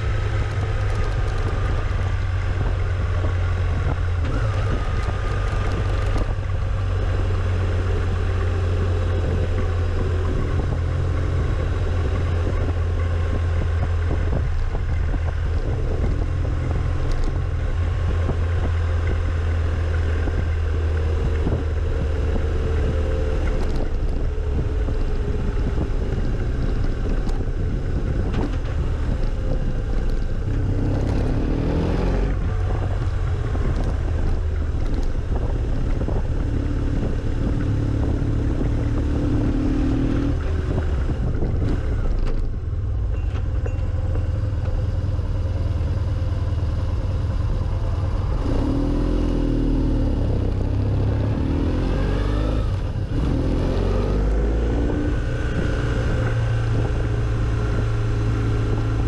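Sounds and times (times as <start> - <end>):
vehicle engine accelerating: 0.0 - 59.0
wind rumble on microphone: 0.0 - 59.0.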